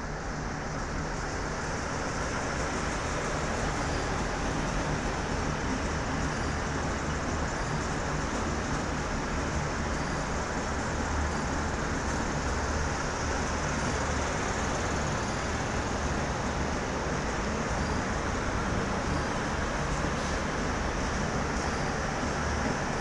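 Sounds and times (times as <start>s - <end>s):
diesel train engines droning: 0.0s - 23.0s.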